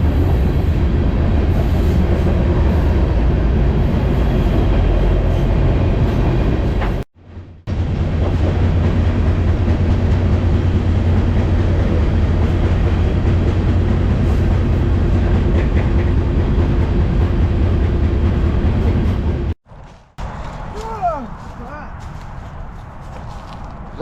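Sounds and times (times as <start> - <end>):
freight train rumbling: 0.0 - 24.0.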